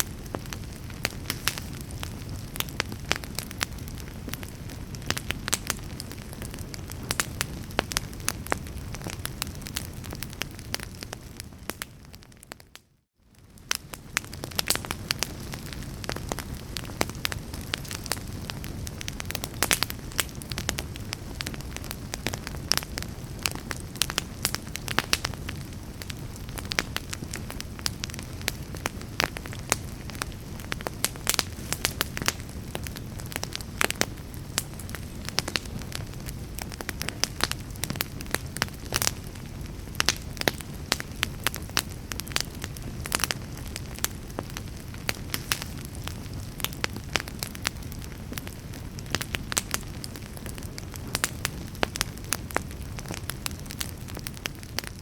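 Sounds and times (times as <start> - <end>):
fire flames rushing: 0.0 - 12.5, 13.4 - 55.0
logs crackling and popping: 0.0 - 55.0.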